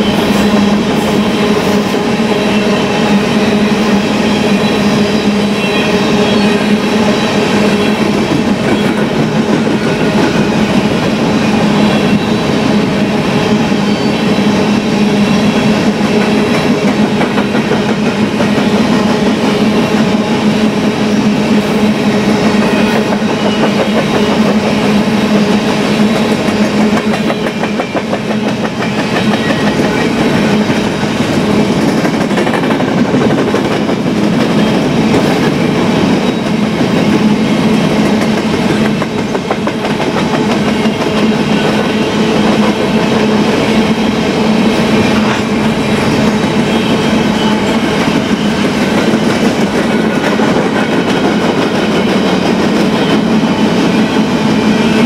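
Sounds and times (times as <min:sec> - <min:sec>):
steel wheels clacking on rails: 0:00.0 - 0:55.0.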